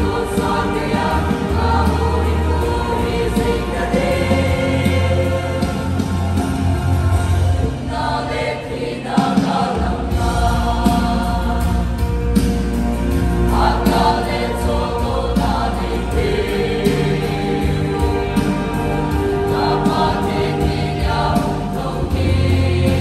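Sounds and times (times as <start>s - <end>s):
choir singing in harmony: 0.0s - 23.0s.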